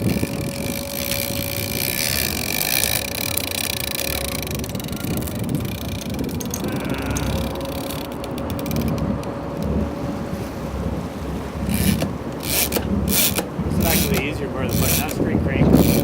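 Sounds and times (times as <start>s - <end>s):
boat engine running: 0.0s - 16.0s
wind on microphone: 0.0s - 16.0s.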